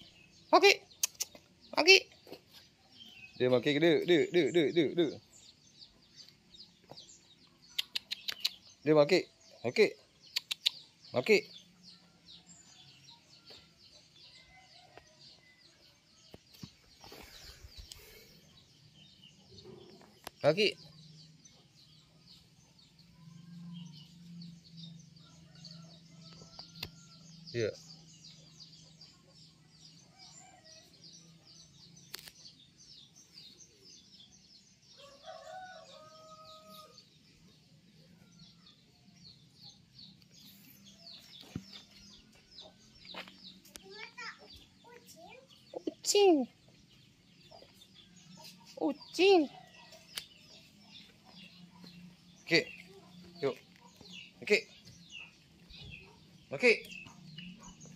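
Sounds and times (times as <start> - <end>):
distant birds chirping: 0.0 - 57.9.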